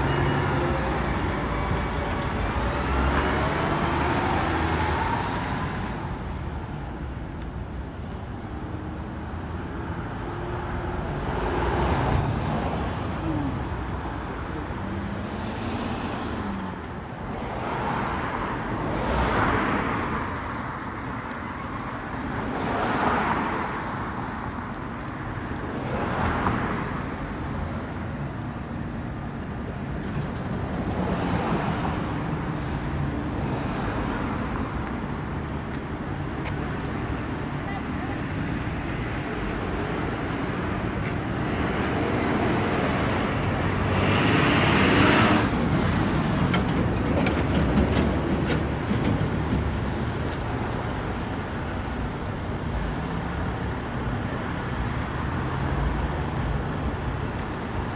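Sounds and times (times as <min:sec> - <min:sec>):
road rumble: 0:00.0 - 0:57.9
vehicles passing: 0:00.0 - 0:57.9.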